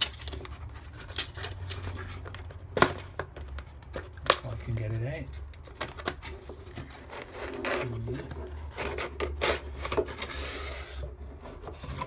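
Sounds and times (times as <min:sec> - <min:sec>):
rubbing and scraping of box: 0:00.0 - 0:12.0.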